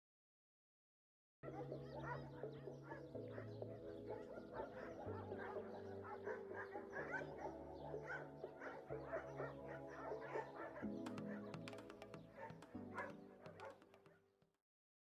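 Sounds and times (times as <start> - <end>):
soft background music: 1.4 - 14.2
dogs barking and yipping: 1.5 - 13.8.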